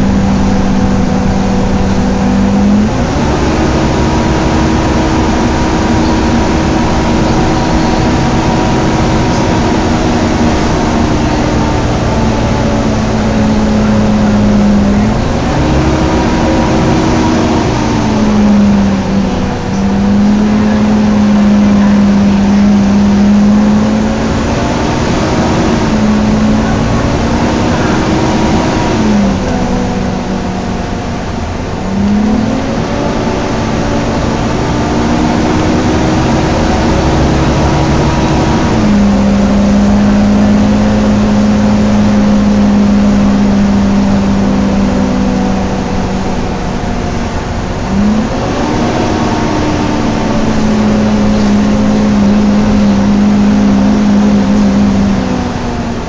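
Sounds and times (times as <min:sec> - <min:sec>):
bus engine and road noise: 0:00.0 - 0:56.0
engine cooling fan whining: 0:00.0 - 0:56.0.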